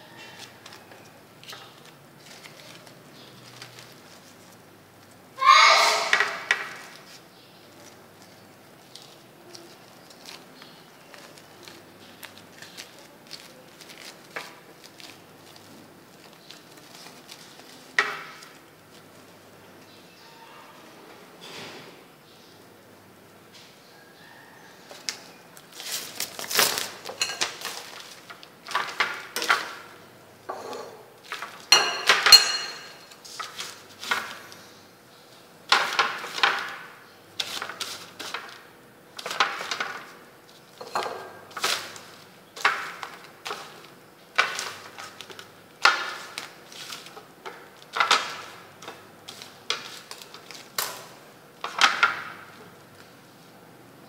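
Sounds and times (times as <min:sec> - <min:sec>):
plastic sheet crinkling: 0:00.4 - 0:05.2, 0:06.1 - 0:19.5, 0:24.9 - 0:30.1, 0:31.1 - 0:34.8, 0:35.7 - 0:53.5.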